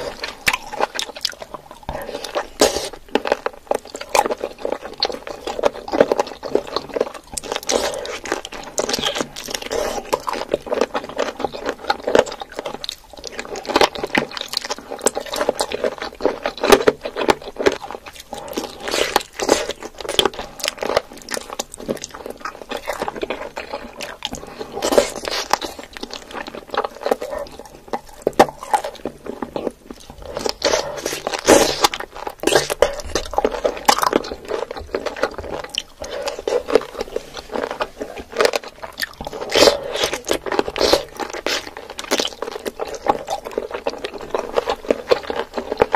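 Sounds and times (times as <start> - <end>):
cartilage crunching: 0.0 - 45.9
chewing and mouth smacking: 0.0 - 45.9.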